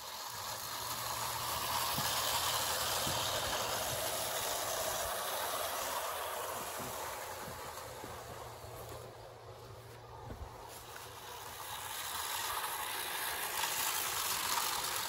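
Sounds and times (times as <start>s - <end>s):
clockwork motor whirring: 0.0s - 9.2s, 10.5s - 15.0s
toy coaches rattling on track: 0.0s - 9.3s, 10.7s - 15.0s.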